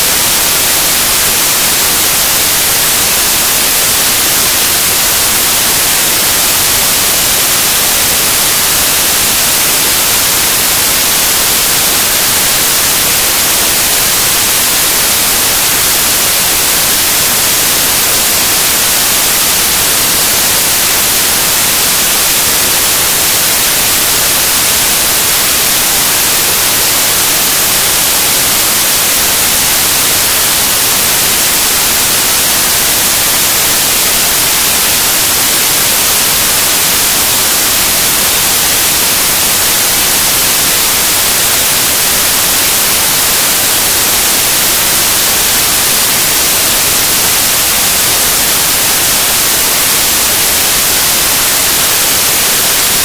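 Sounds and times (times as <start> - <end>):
loud static hiss: 0.0 - 53.0.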